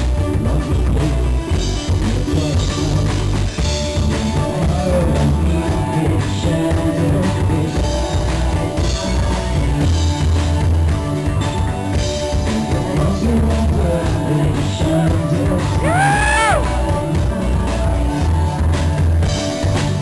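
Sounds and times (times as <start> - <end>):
person singing: 0.0 - 11.3, 12.3 - 20.0
heavy drum beat: 0.0 - 20.0
rock band playing: 0.0 - 20.0.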